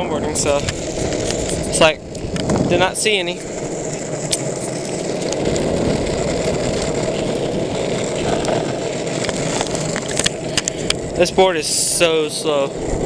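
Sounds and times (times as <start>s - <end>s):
wheels rolling over asphalt: 0.0s - 13.0s.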